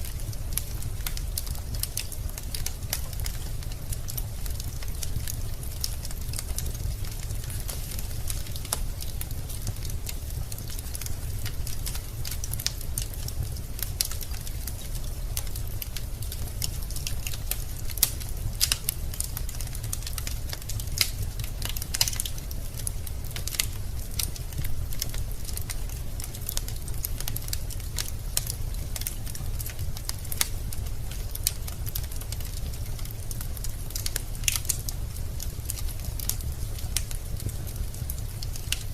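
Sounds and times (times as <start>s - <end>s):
logs crackling and popping: 0.0s - 38.9s
low fire rumble: 0.0s - 38.9s.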